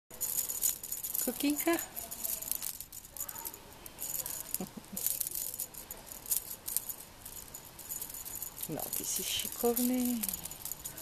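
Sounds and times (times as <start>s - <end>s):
cat toy rattling and jingling: 0.1s - 11.0s.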